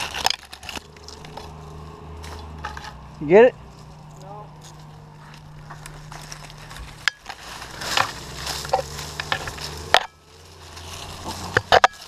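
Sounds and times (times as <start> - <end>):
dry leaves and twigs rustling: 0.0 - 12.0
steady low hum: 0.3 - 11.7.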